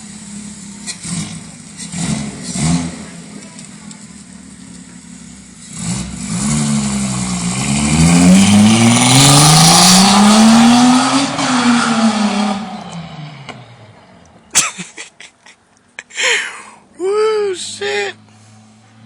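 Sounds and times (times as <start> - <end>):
car engine accelerating: 0.0 - 14.5, 17.6 - 19.0.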